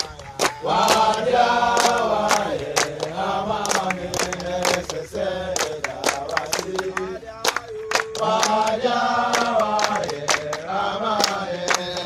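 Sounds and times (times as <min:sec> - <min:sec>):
hands clapping to a beat: 0:00.0 - 0:12.0
young men singing a chant: 0:00.0 - 0:12.0.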